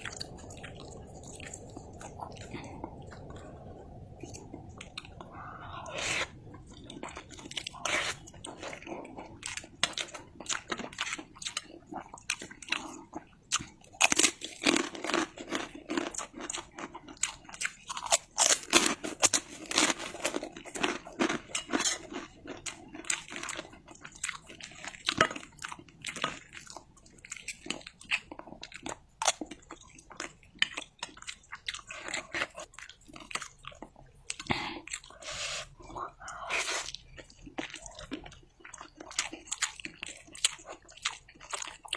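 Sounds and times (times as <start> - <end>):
person chewing noodles: 0.0 - 41.9.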